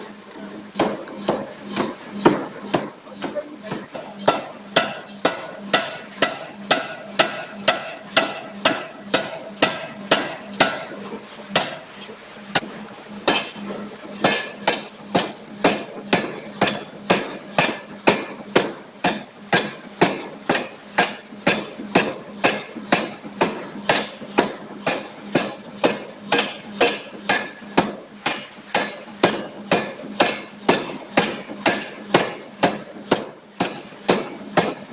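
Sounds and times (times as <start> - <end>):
steady low hum: 0.0 - 34.9
forging hammer blows: 0.8 - 34.9.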